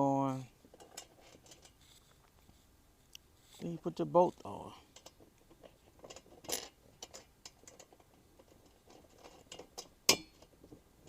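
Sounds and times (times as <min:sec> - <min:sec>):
metal hardware clicks and scratches: 0:00.3 - 0:02.6, 0:03.4 - 0:10.8.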